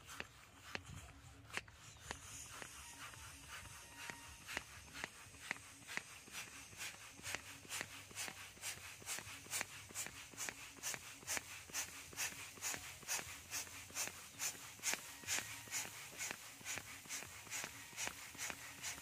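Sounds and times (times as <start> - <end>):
balloon pump hissing: 0.0 - 19.0.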